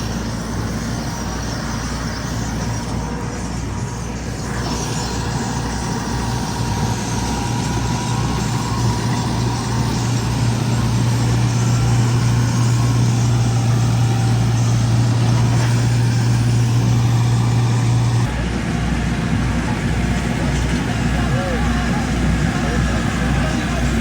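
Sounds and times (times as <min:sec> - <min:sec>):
heavy farm machinery engine hum: 0:00.0 - 0:24.0.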